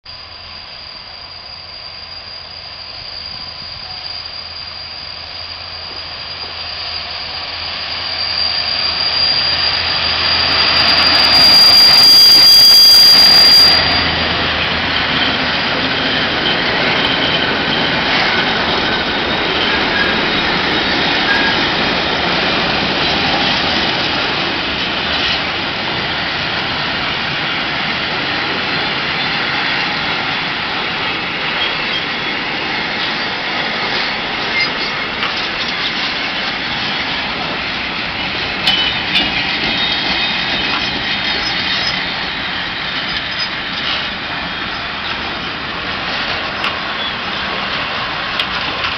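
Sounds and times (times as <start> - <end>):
electric locomotive whine: 0.1 - 48.9.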